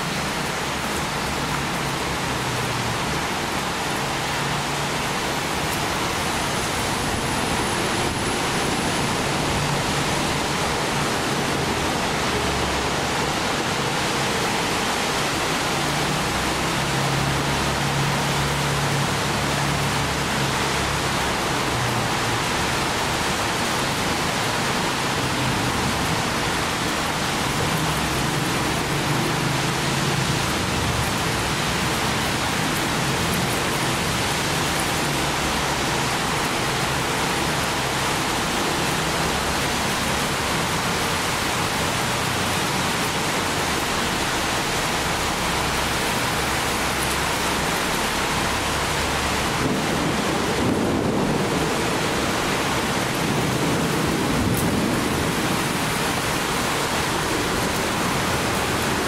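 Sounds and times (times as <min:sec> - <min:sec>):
rain hissing: 0:00.0 - 0:59.0
wind: 0:00.0 - 0:59.0.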